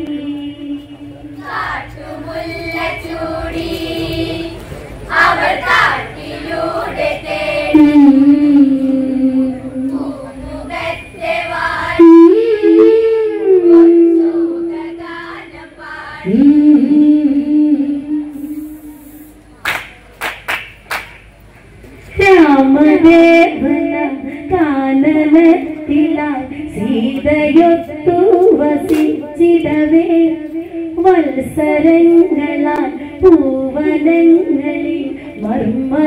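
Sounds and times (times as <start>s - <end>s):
women singing through microphones: 0.0s - 19.2s, 22.1s - 36.0s.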